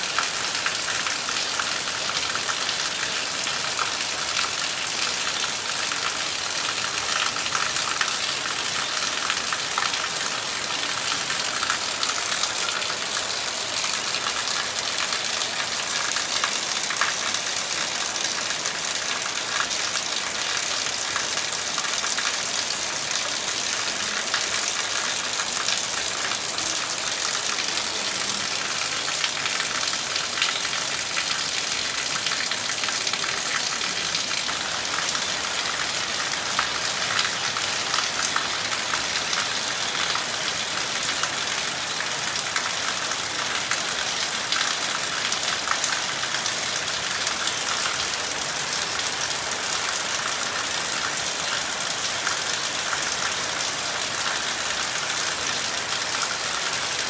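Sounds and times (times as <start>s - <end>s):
heavy rain on trees: 0.0s - 57.0s.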